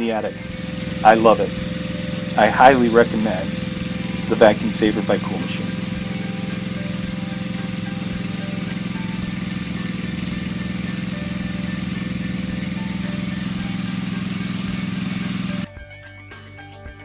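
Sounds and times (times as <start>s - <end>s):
vacuum running: 0.0s - 15.7s.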